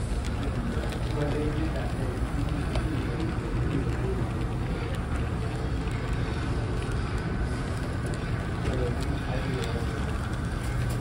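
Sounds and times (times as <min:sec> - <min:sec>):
faint background chatter: 0:00.0 - 0:11.0
low room rumble: 0:00.0 - 0:11.0.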